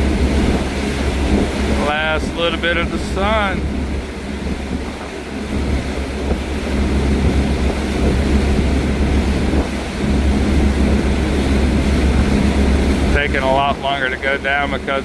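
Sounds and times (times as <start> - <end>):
steady low hum: 0.0 - 15.0
wind buffeting microphone: 0.0 - 15.0.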